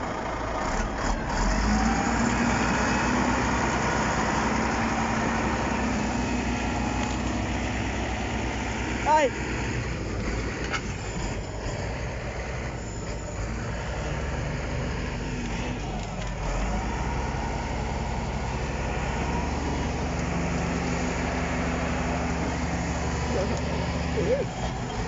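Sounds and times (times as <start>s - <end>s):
bulldozer diesel engine under load: 0.0s - 25.0s.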